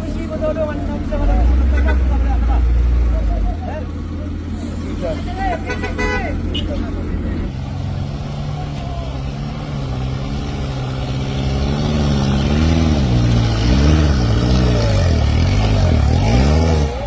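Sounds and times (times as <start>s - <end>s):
truck engine revving under load: 0.7s - 17.0s.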